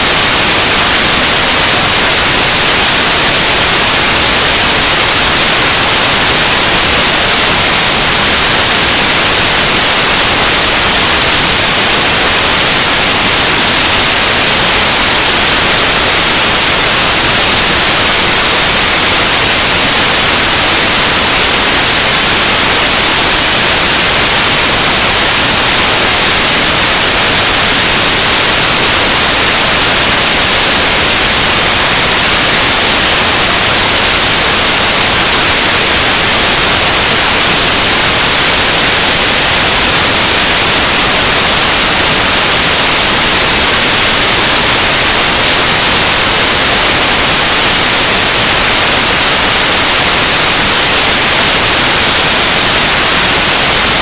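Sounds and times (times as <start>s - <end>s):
harsh static noise music: 0.0s - 54.0s.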